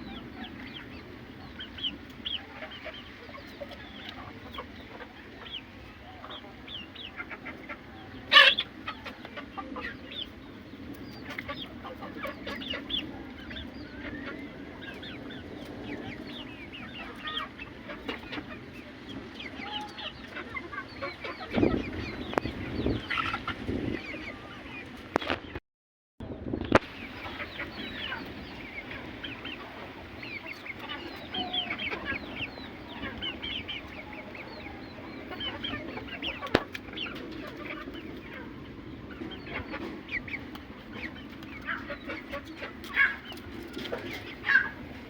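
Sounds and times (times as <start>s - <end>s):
chickens clucking: 0.0s - 25.6s, 26.6s - 45.0s.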